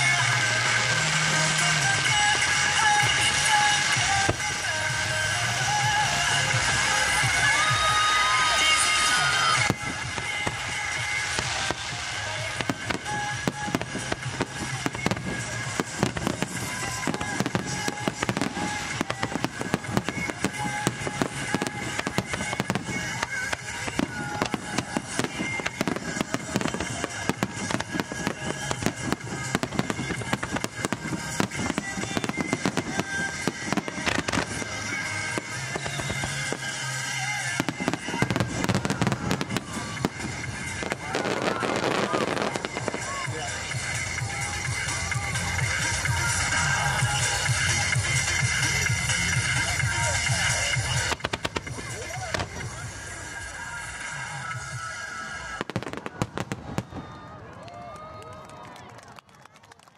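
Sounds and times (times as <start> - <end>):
fireworks bursting: 0.0 - 57.8
music playing: 0.0 - 58.8.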